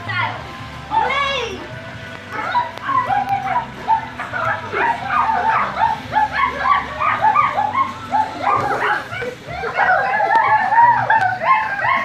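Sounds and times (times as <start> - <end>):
girls imitating dog barks: 2.3 - 12.0.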